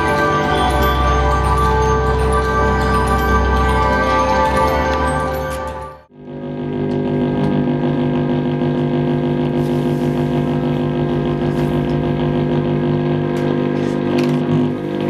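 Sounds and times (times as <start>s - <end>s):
buzzing electronic drone: 0.0s - 15.0s.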